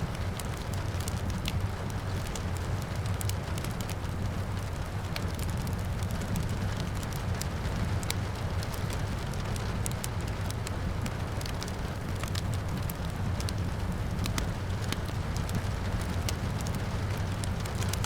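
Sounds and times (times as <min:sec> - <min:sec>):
rain falling: 0:00.0 - 0:18.0
wood fire crackling and popping: 0:00.0 - 0:18.0.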